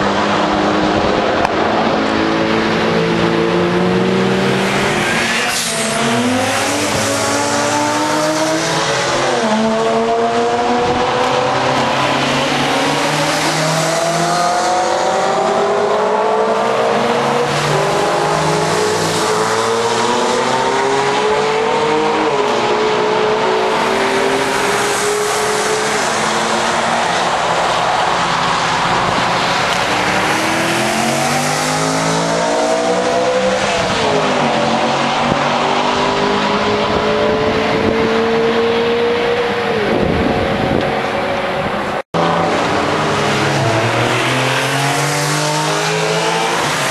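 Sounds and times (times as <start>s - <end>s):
race car engines accelerating: 0.0s - 46.9s.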